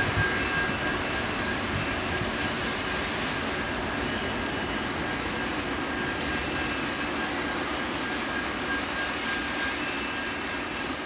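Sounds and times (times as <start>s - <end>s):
diesel locomotive engine drone: 0.0s - 11.0s
faint high whine: 0.0s - 11.0s
rail rumble: 0.0s - 11.0s.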